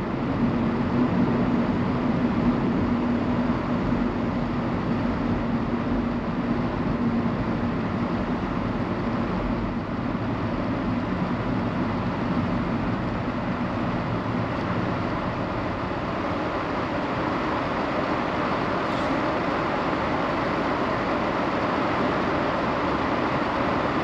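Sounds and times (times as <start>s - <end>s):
road and tyre noise in car: 0.0s - 24.0s.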